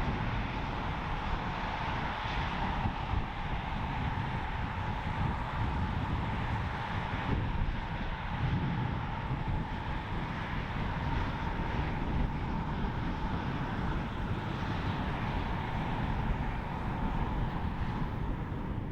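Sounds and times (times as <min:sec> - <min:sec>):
jet engines roaring: 0:00.0 - 0:18.9
wind rumbling on microphone: 0:00.0 - 0:18.9.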